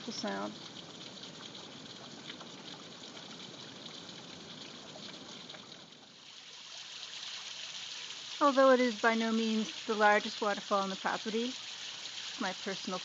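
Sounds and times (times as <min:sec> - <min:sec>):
water rushing down rock face: 0:00.0 - 0:13.0.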